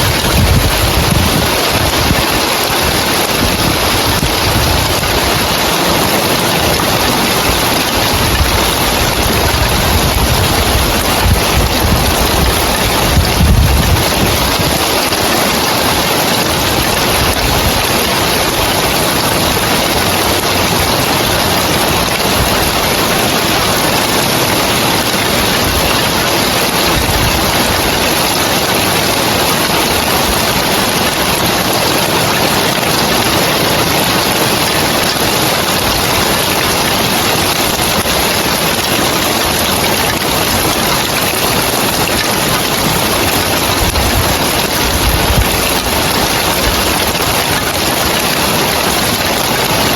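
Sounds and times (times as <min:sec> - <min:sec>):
rain on roof tiles: 0:00.0 - 0:49.9.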